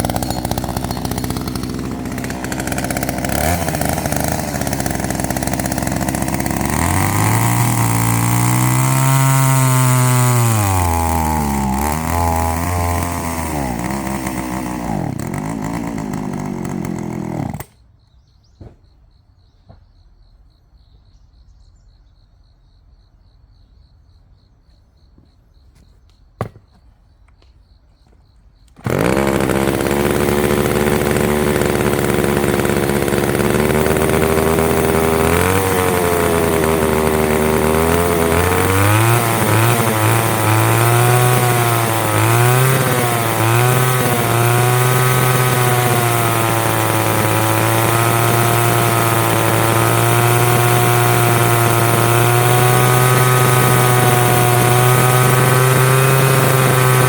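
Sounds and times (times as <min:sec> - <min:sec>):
chainsaw cutting wood: 0:00.0 - 0:17.8, 0:28.7 - 0:57.0.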